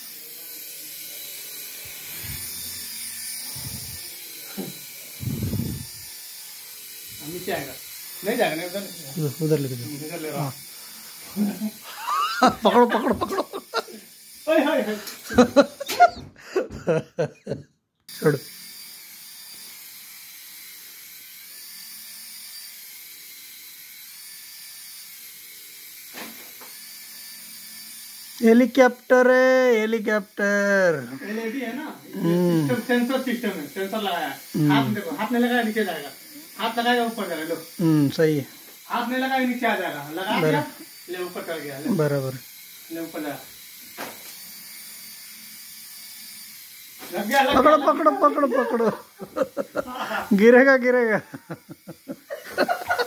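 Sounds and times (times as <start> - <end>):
toy helicopter rotor buzz: 0.0 - 53.0.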